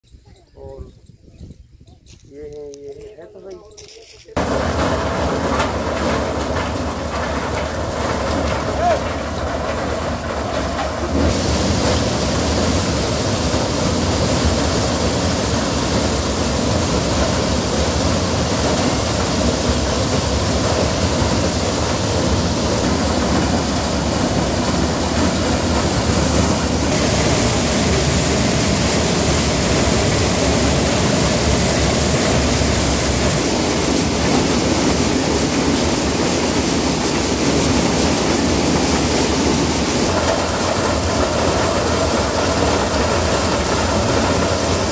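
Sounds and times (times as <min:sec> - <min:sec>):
corn thresher running: 0:03.0 - 0:44.9.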